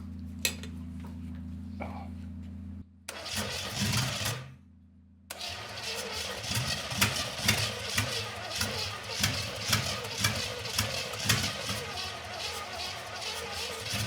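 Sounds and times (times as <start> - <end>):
car engine cranking and sputtering: 0.1 - 4.7, 5.3 - 14.0.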